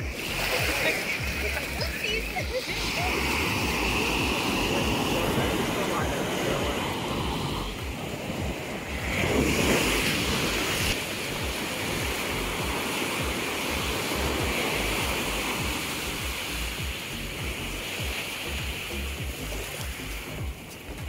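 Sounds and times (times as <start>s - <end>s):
waves breaking on sandy beach: 0.0s - 21.0s
wind buffeting microphone: 0.0s - 21.0s.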